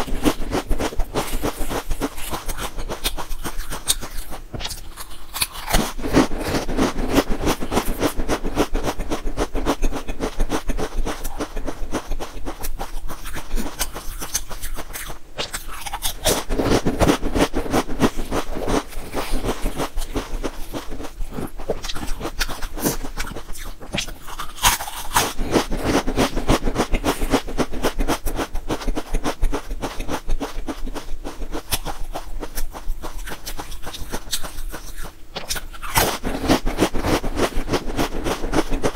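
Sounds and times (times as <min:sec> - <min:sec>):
crunching potato chips: 0:00.0 - 0:38.9.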